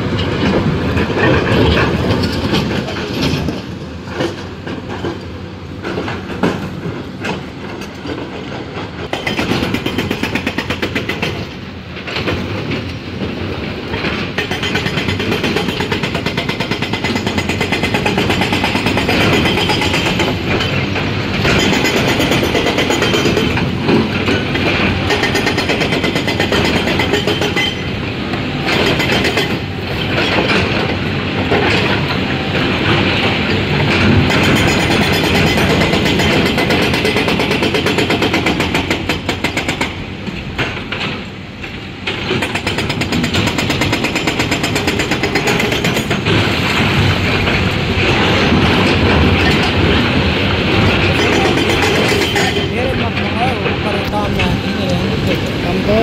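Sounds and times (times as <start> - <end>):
hydraulic rock breaker hammering: 5.8 - 56.0.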